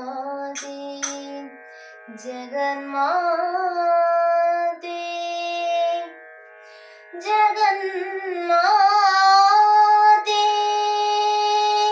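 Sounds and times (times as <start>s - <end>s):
girl singing devotional song: 0.0s - 6.2s, 7.1s - 11.9s.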